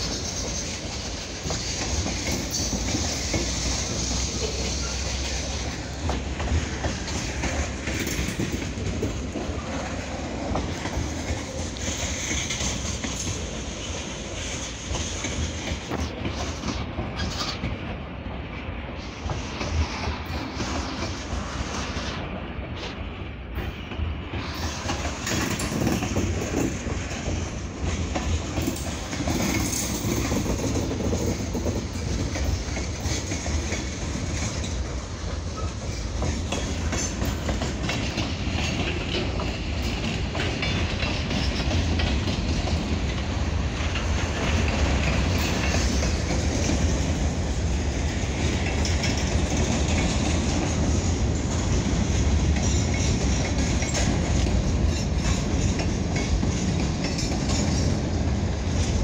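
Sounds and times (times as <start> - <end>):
train wheels clicking over rails: 0.0 - 59.0.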